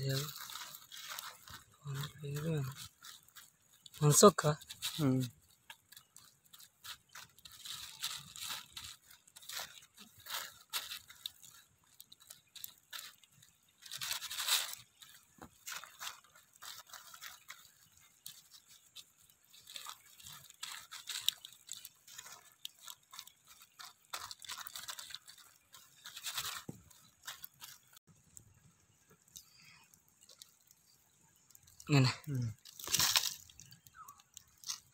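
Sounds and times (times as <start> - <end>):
plastic sheet crinkling: 0.0 - 34.9.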